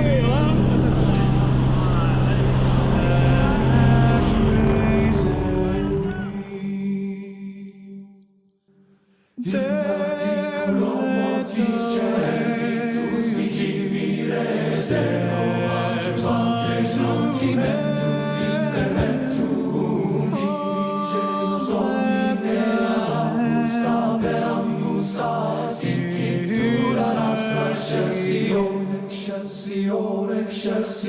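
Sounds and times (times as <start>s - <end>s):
choir singing a sacred piece: 0.0s - 8.2s, 9.4s - 31.0s.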